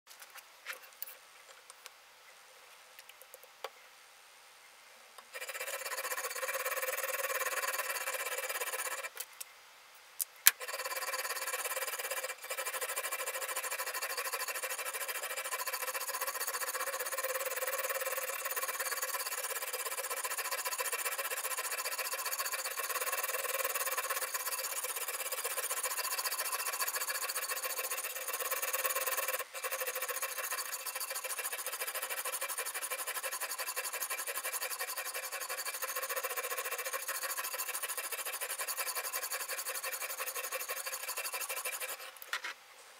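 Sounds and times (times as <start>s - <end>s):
sharpening stone rasping on knife: 5.4s - 9.1s, 10.6s - 42.1s.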